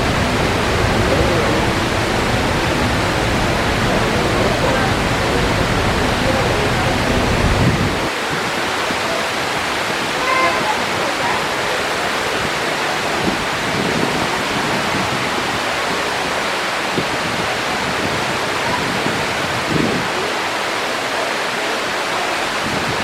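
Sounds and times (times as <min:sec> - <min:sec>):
waterfall pouring and splashing: 0:00.0 - 0:23.0.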